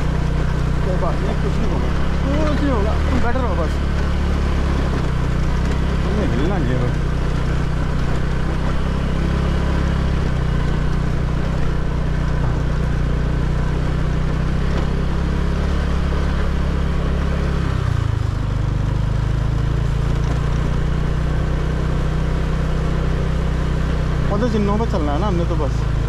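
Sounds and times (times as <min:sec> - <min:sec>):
motorbike engine running: 0:00.0 - 0:26.0.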